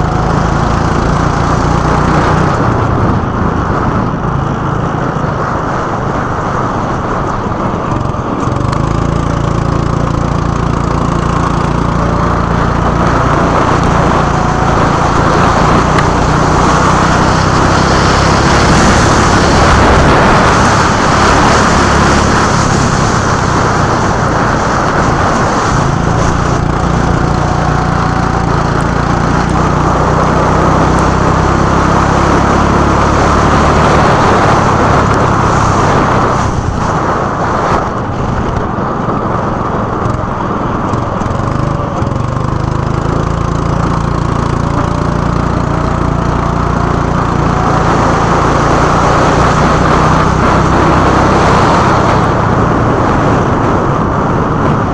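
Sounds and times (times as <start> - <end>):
go-kart engine: 0.0 - 54.9.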